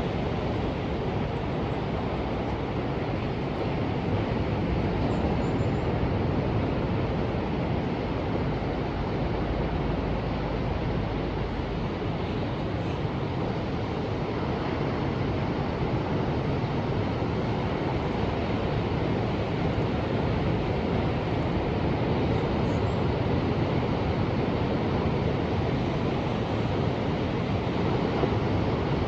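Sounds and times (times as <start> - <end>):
ocean waves rushing: 0.0 - 29.0.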